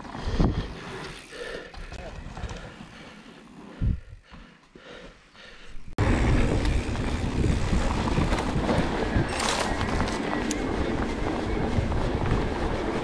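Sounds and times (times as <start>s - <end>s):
bike clattering and rattling: 0.0s - 3.7s, 6.0s - 13.0s
bike tyres rumbling on trail: 0.0s - 13.0s.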